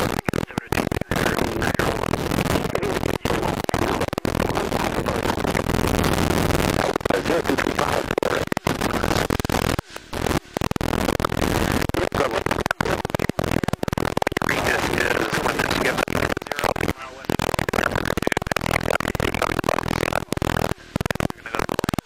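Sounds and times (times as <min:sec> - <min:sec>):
crackles: 0:00.0 - 0:22.0.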